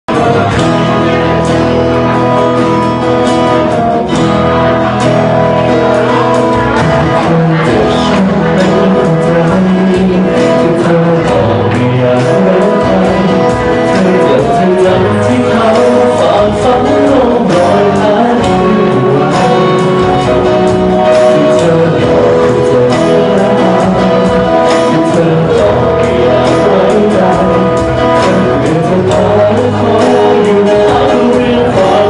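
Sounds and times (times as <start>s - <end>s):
live band music with guitar: 0.1s - 32.0s
person singing: 0.1s - 32.0s.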